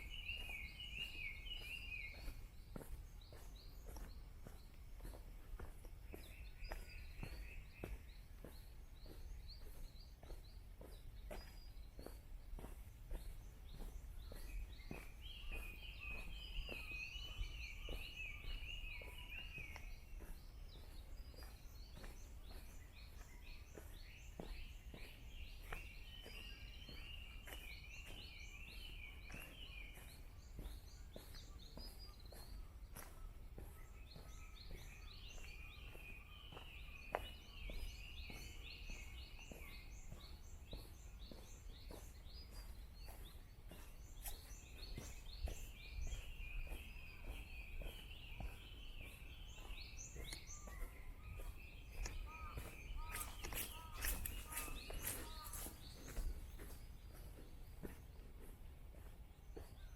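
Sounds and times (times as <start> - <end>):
footsteps on a path: 0.0 - 59.9
songbird chattering song: 0.0 - 59.9.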